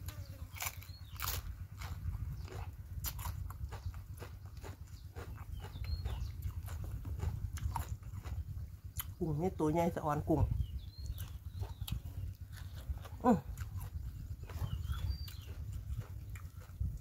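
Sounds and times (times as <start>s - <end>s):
person chewing crunchy food: 0.0s - 9.2s, 10.8s - 17.0s
low rumble: 0.7s - 17.0s.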